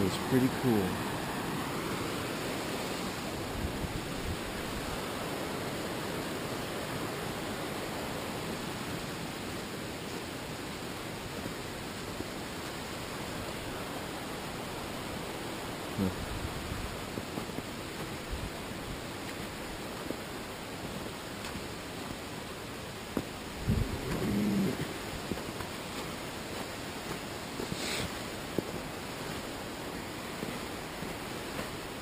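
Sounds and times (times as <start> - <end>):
streams rushing: 0.0 - 32.0.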